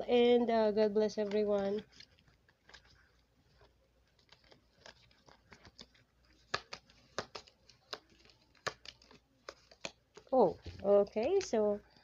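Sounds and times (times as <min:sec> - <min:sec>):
cards being shuffled: 0:01.0 - 0:11.8.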